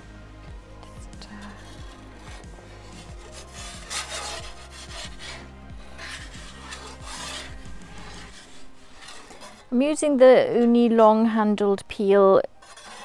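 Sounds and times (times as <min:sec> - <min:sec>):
metal peel scraping on stone: 0:00.8 - 0:11.2, 0:12.4 - 0:13.0.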